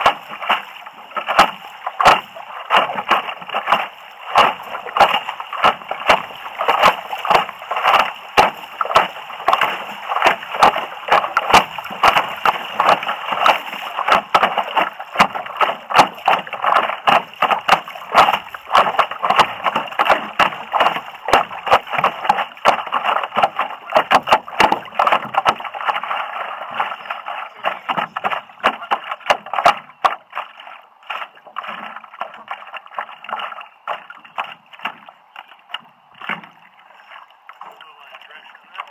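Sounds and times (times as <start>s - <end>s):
rush of moving water: 0.0s - 38.9s
water splashing against paddleboard: 0.0s - 38.9s.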